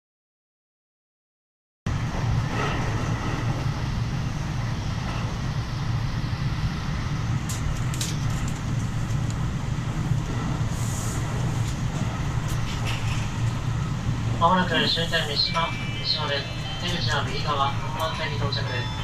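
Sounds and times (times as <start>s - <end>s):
electric train rumble inside car: 1.9s - 19.0s.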